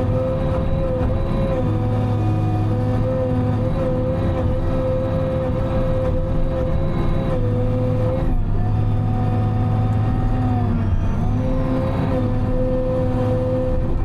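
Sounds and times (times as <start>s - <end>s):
diesel engine and hydraulics: 0.0s - 14.0s.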